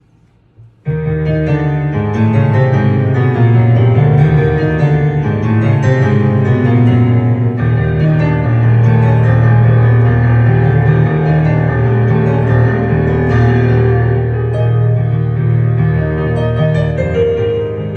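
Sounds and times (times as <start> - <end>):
digital piano playing pop chords: 0.9 - 17.9.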